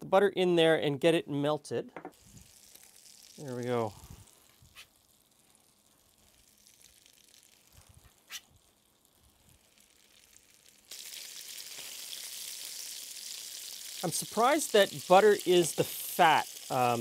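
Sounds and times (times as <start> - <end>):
meat sizzling in a pan: 2.1 - 17.0.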